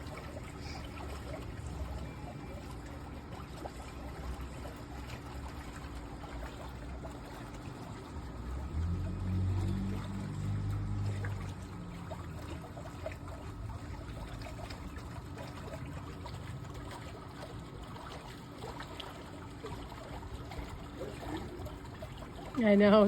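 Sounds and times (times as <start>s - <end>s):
pool water trickling and lapping: 0.0s - 23.0s
small ticks and splashes: 0.0s - 23.0s.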